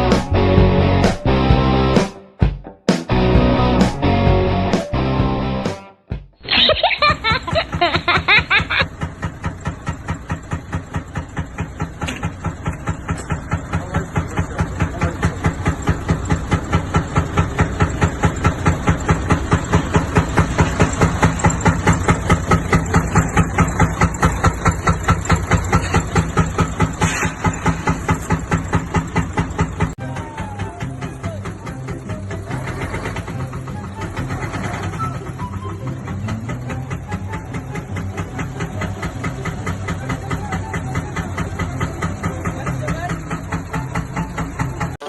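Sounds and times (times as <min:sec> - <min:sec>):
truck diesel engine idling: 0:06.8 - 0:45.0.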